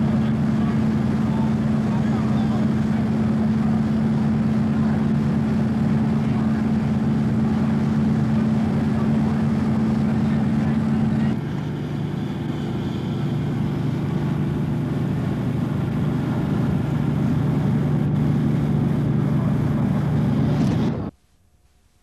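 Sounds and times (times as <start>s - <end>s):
fire engine drone: 0.0s - 21.2s.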